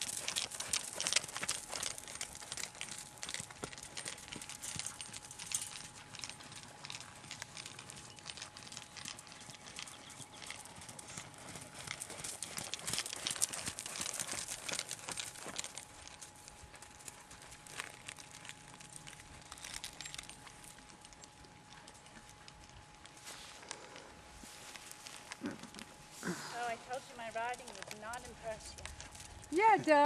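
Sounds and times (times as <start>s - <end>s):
horse trotting on sand: 0.0s - 30.0s.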